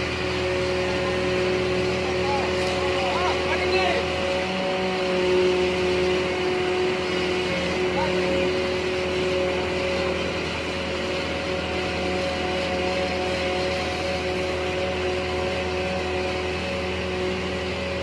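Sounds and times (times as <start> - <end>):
combine harvester engine droning: 0.0 - 18.0.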